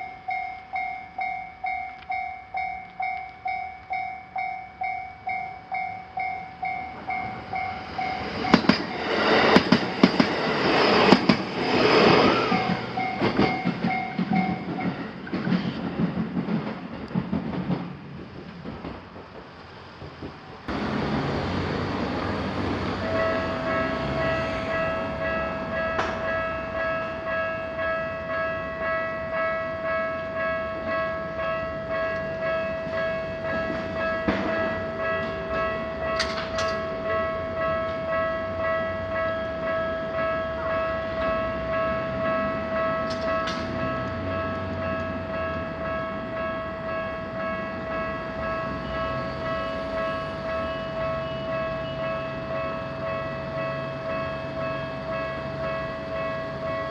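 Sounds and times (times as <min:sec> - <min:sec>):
level-crossing warning bell: 0:00.0 - 0:16.6, 0:22.5 - 0:56.9
train running on rails: 0:00.0 - 0:56.9.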